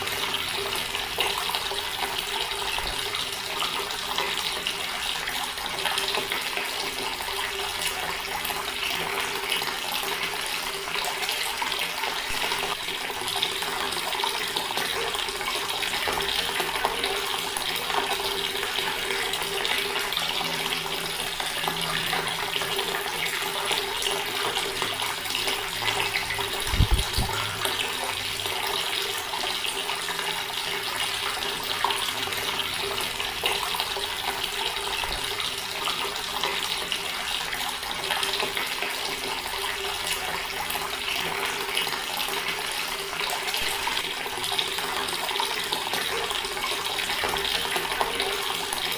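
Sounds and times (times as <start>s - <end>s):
tap water running: 0.0s - 48.9s.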